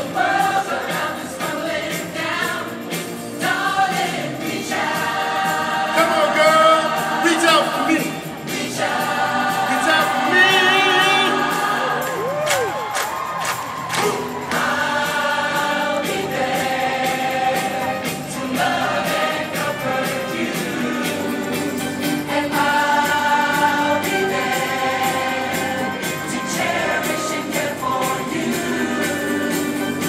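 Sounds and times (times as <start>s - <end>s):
group of people singing in chorus: 0.0s - 30.0s.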